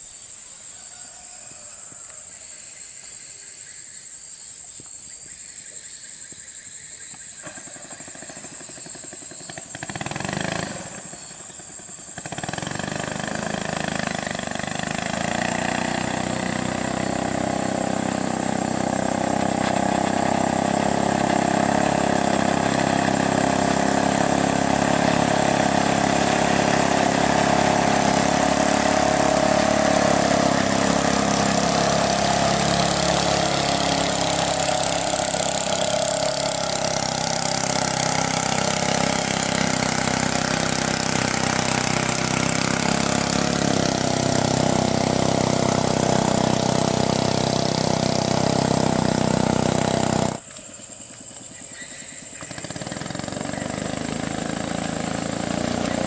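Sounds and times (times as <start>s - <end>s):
small boat engine running: 7.4s - 51.1s, 51.9s - 56.0s.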